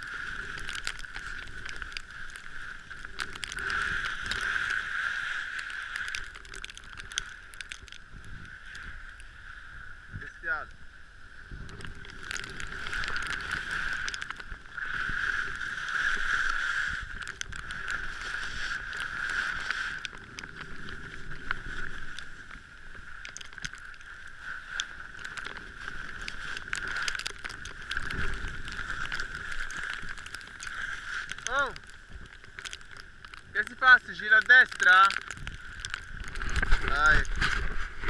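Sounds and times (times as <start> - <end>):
small clicks and crackles: 0.0 - 38.0.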